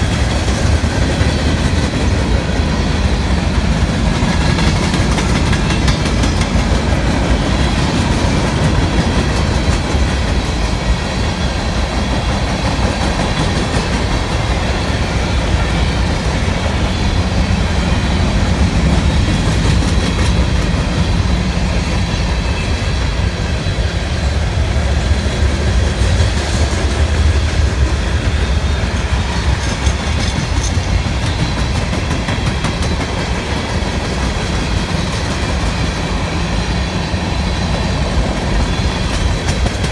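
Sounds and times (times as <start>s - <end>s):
wheels clacking over rail joints: 0.0s - 23.6s, 25.4s - 39.9s
rumble of train wheels on rail: 0.0s - 39.9s.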